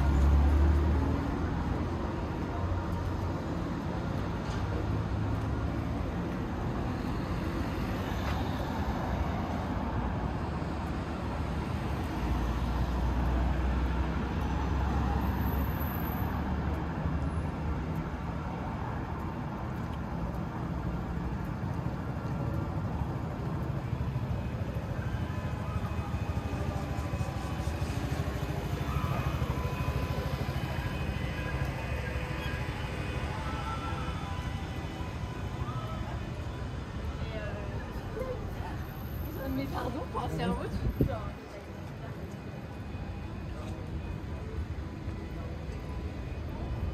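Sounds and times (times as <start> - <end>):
cars passing: 0.0 - 46.9.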